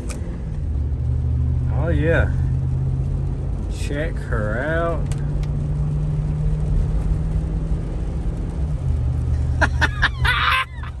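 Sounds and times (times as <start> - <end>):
truck engine accelerating: 0.0 - 11.0.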